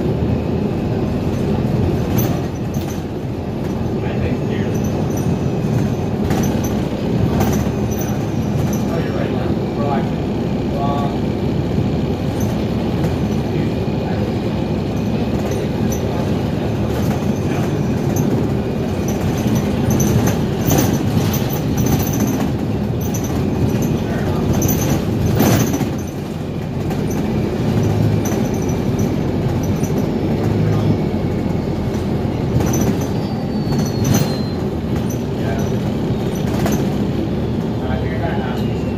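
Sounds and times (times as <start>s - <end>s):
bus drivetrain and road rumble: 0.0s - 38.9s
body rattles and clicks: 1.2s - 9.5s, 12.2s - 37.8s.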